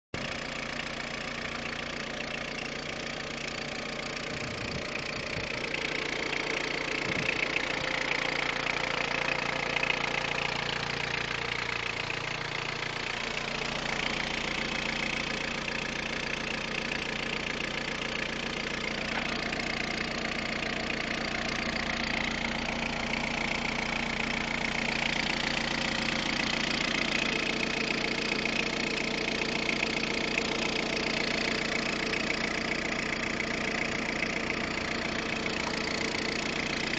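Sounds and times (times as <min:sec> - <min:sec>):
diesel engine idling: 0:00.2 - 0:36.9.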